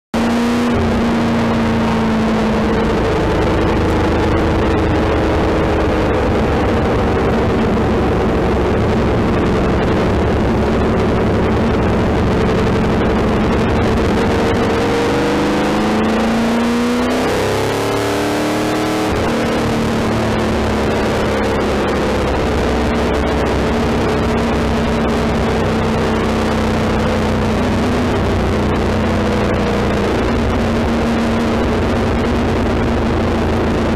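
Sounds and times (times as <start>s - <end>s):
race car engine running: 0.1s - 33.9s
wind noise: 0.7s - 33.9s.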